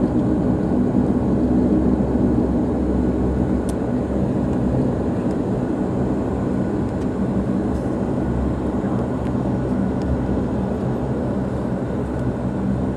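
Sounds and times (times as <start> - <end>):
airliner cabin engine rumble: 0.0 - 12.9.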